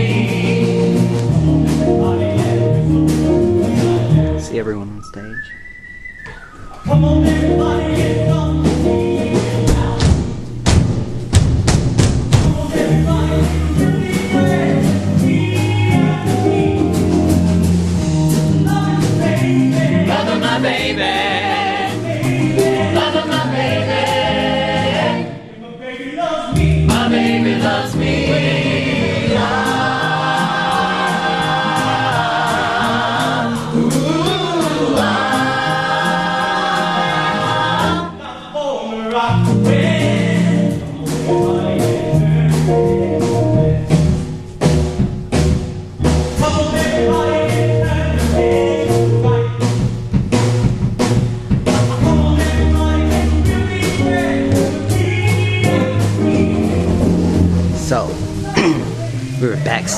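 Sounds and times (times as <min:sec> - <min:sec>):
choir singing gospel-style: 0:00.0 - 0:04.4, 0:06.6 - 0:10.6, 0:12.3 - 0:59.9
band with bass and drums: 0:00.0 - 0:05.4, 0:06.0 - 0:25.2, 0:26.6 - 0:38.1, 0:39.3 - 0:59.9.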